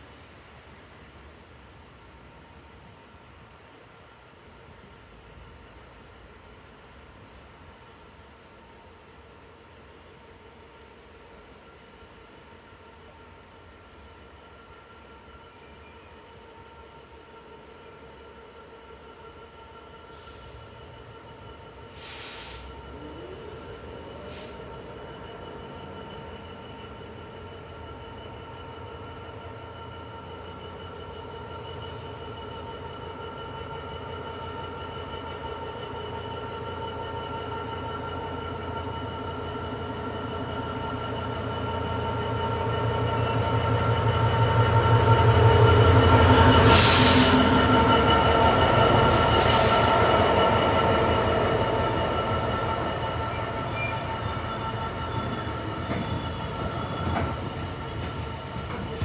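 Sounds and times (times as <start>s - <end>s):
diesel locomotive passing: 0.0s - 59.0s.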